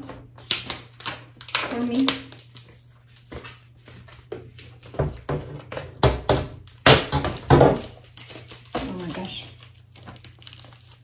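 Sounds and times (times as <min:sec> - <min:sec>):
plastic film peeling and crackling: 0:00.0 - 0:05.0, 0:06.6 - 0:11.0.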